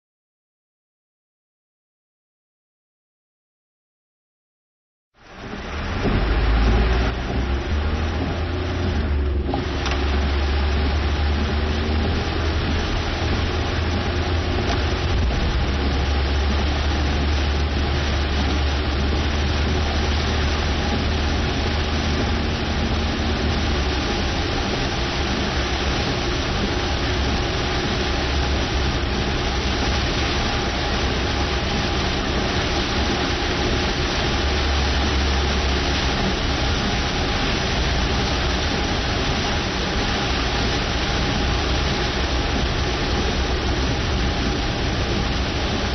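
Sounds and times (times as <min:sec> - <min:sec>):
heavy rain hissing: 0:05.2 - 0:45.9
low rumble: 0:05.2 - 0:45.9.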